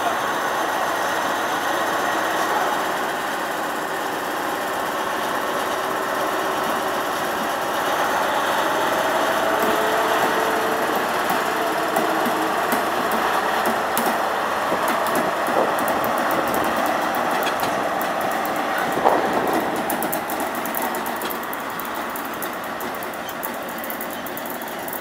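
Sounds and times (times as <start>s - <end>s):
train clunk: 0.0s - 25.0s
train diesel engine running: 0.0s - 25.0s
train wheels clicking over rail joints: 0.0s - 25.0s.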